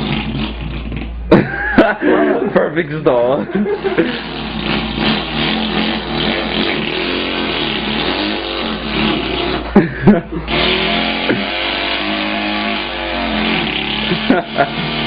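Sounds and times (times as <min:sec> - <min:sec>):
person imitating an engine: 0:00.0 - 0:02.6, 0:03.4 - 0:15.0.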